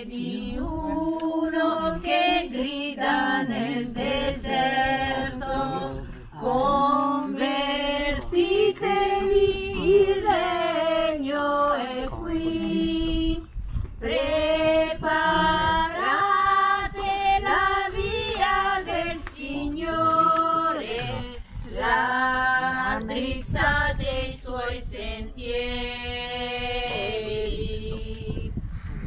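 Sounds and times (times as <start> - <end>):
group singing a hymn: 0.0 - 28.6.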